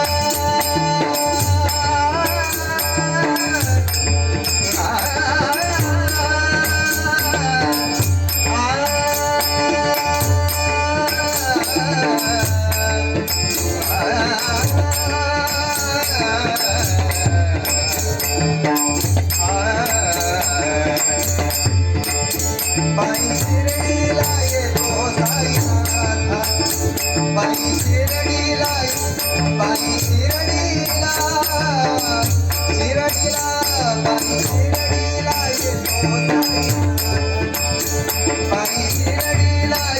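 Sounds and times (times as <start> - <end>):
lead singer singing: 0.0 - 39.9
rhythmic percussion: 0.0 - 39.9.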